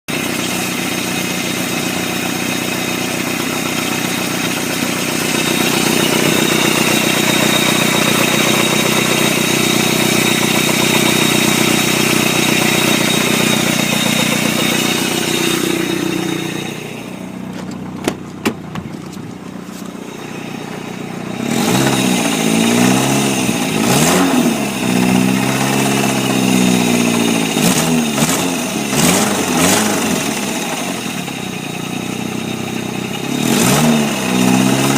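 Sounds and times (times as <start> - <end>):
car engine revving: 0.2 - 31.3, 32.8 - 34.9.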